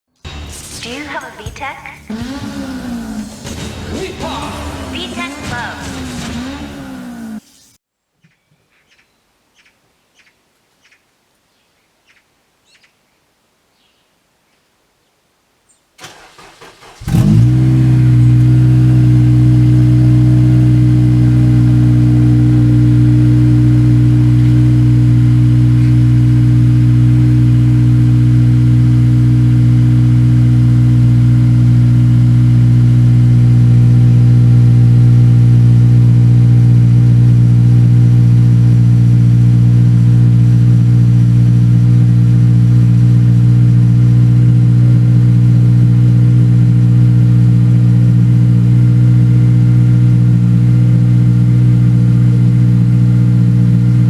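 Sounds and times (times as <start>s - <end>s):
car engine cranking and idling: 0.1s - 7.8s, 16.0s - 54.0s.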